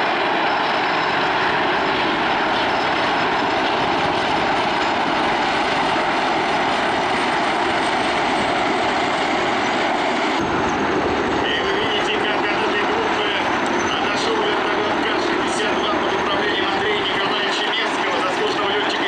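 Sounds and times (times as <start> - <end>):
helicopters flying past: 0.0 - 19.0.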